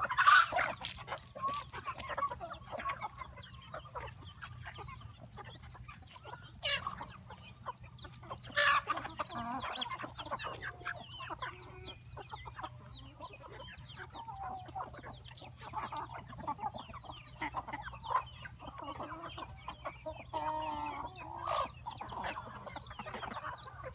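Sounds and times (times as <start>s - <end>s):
chicken squawk: 0.0s - 4.2s, 8.2s - 23.9s
chickens clucking and cheeping: 0.0s - 23.9s.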